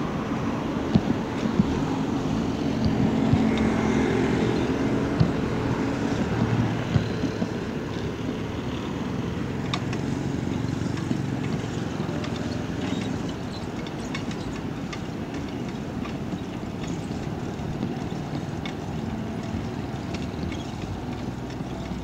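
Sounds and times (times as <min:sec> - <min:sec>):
road noise: 0:00.0 - 0:22.0
vehicle engine hum: 0:00.0 - 0:22.0.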